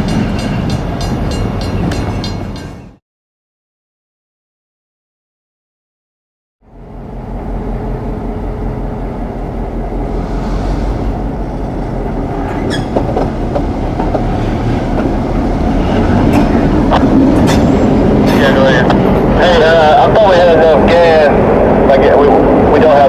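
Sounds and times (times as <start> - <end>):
train rumbling past: 0.0 - 3.0, 6.6 - 23.0.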